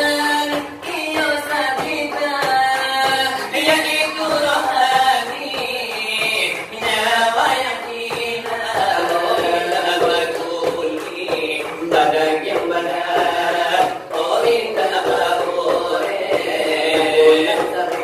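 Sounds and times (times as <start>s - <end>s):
voices singing devotional chant: 0.0s - 18.0s.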